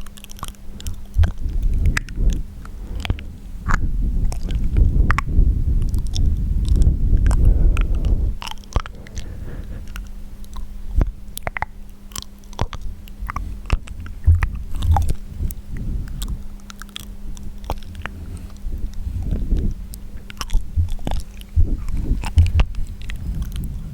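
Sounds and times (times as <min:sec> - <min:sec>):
wet mouth clicks and smacks: 0:00.0 - 0:23.8
low muffled rumble: 0:00.0 - 0:23.9.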